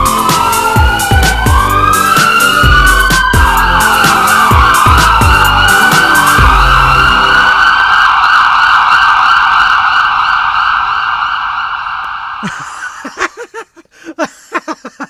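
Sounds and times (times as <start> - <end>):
siren-like noise sweep: 0.0 - 12.6.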